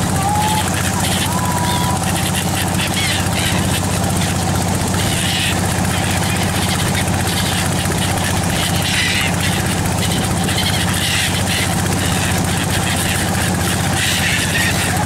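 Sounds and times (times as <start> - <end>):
engine running: 0.0 - 15.0
gulls calling: 0.0 - 15.0.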